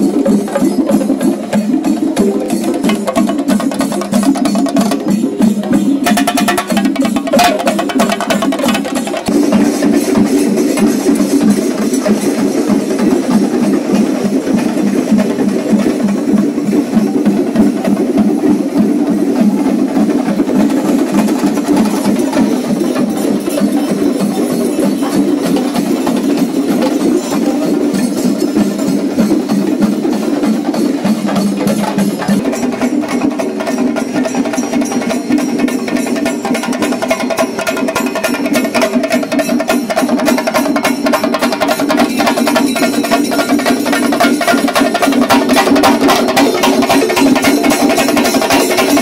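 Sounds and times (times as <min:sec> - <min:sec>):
drums beaten with sticks: 0:00.0 - 0:49.0.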